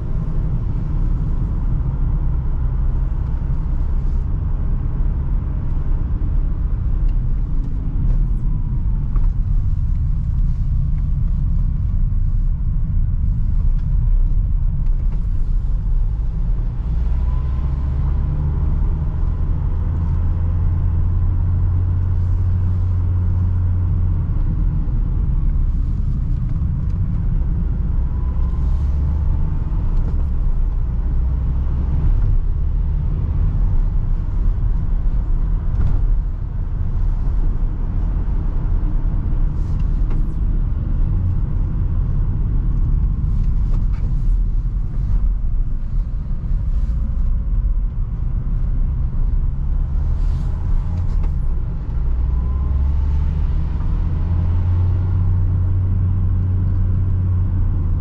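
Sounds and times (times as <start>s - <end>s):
van engine and road rumble: 0.0s - 58.0s.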